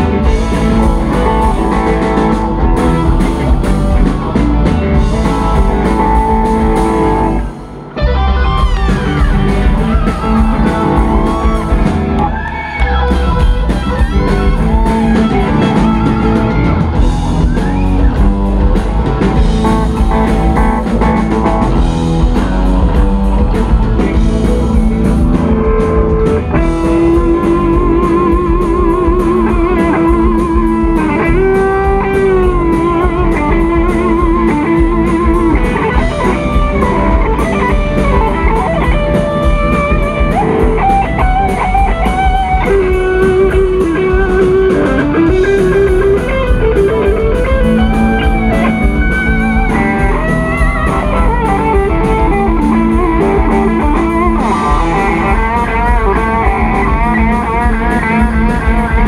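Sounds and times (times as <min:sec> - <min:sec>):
electric guitar solo: 0:00.0 - 0:59.0
rock band playing: 0:00.0 - 0:59.0.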